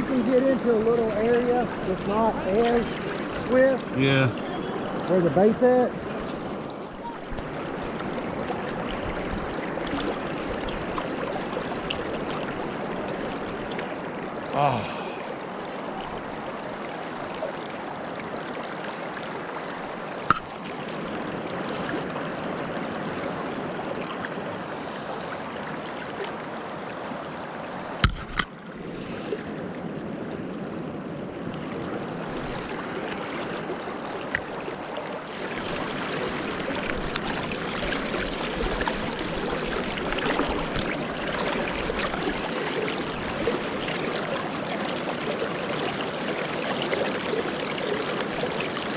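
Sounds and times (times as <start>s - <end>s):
river current rushing: 0.0s - 30.2s, 31.0s - 48.9s.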